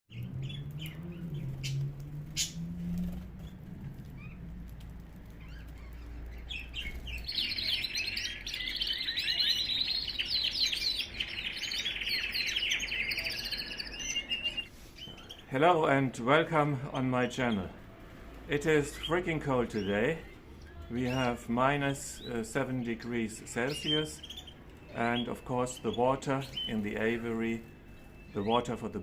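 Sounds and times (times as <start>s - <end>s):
birds chirping: 0.1s - 29.0s.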